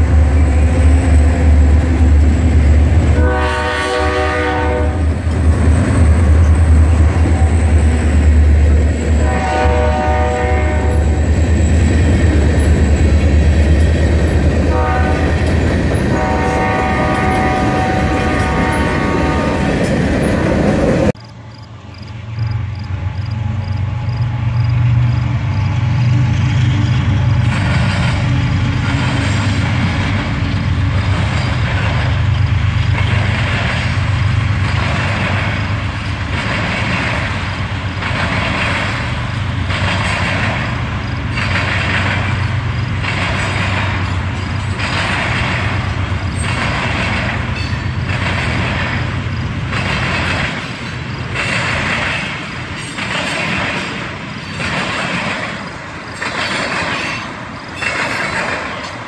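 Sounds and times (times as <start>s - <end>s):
train wheels clattering over rails: 0.0s - 21.2s, 24.7s - 59.0s
diesel locomotive engines droning: 0.0s - 59.0s.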